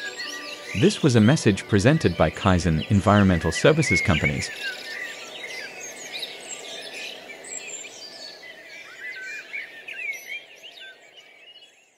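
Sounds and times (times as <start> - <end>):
many birds chirping: 0.0 - 11.9.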